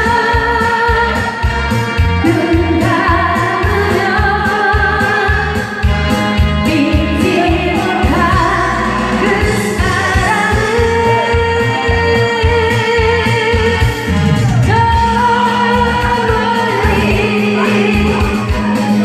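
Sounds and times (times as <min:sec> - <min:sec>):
person singing pop song: 0:00.0 - 0:19.0
steady drum beat: 0:00.0 - 0:19.0.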